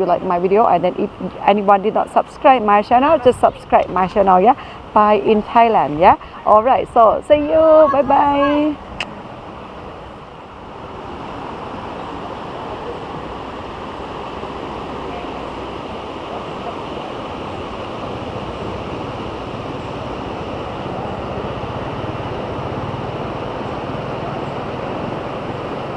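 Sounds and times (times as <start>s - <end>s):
waterfall rushing: 1.2s - 25.9s.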